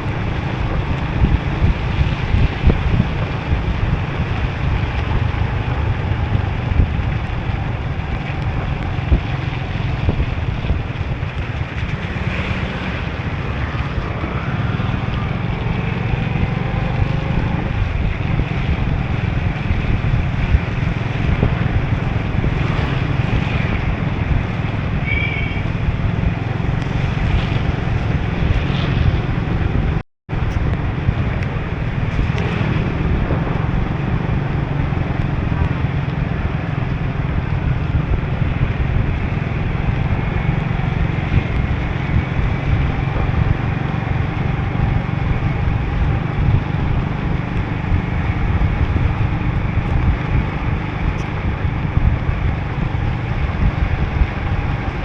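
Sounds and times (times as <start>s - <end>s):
traffic noise: 0.0s - 55.0s
tyre noise on wet road: 0.0s - 55.0s
wind rumble on microphone: 0.0s - 55.0s.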